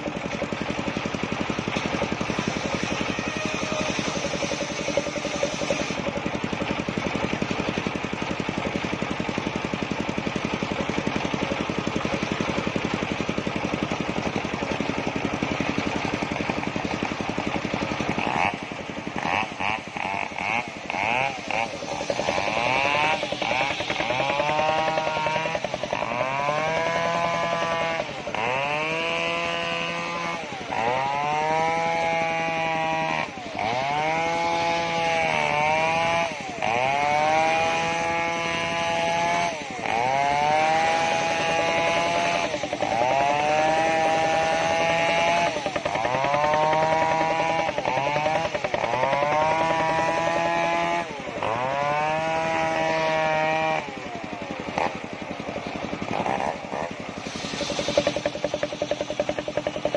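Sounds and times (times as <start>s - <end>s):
engine-driven circular saw cutting wood: 0.0s - 59.9s.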